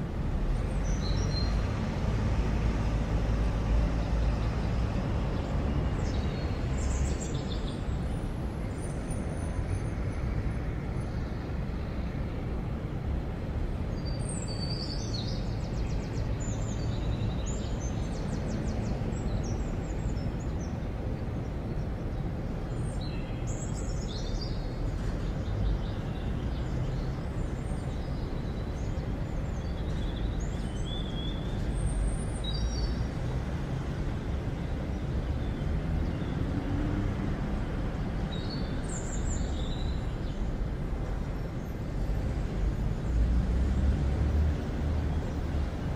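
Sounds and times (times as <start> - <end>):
distant traffic rumble: 0.0 - 45.9.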